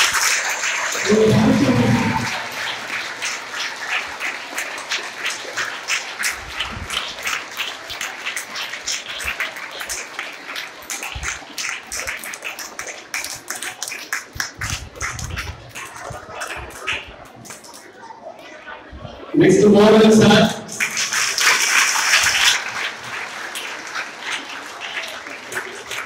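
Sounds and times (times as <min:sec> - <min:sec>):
audience applauding: 0:00.0 - 0:17.9, 0:20.1 - 0:26.0.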